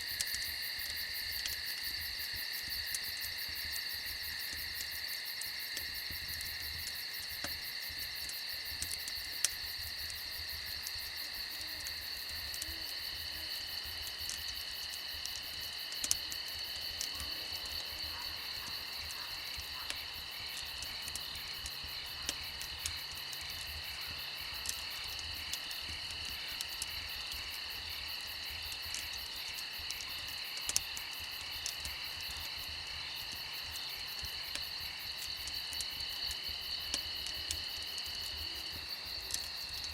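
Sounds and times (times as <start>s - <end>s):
campfire popping and crackling: 0.0s - 39.9s
crickets chirping: 0.0s - 39.9s.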